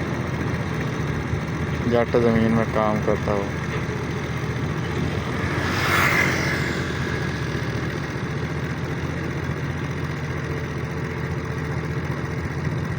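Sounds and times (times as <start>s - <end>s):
tractor engine rumbling: 0.0s - 12.9s.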